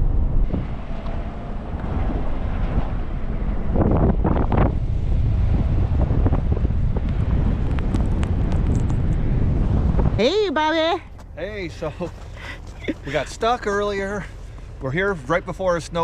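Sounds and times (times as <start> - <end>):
wind buffeting microphone: 0.0 - 15.1.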